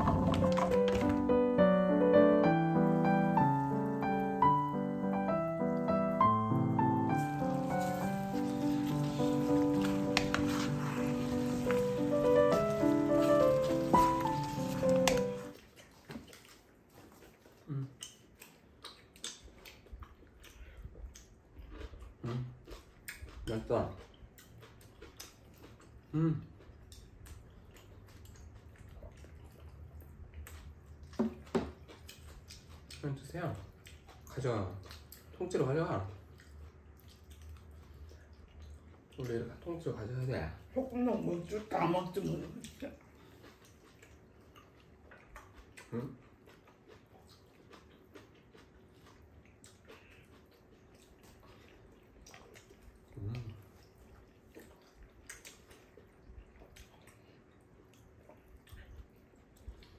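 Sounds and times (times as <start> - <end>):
chewing: 2.7 - 59.9.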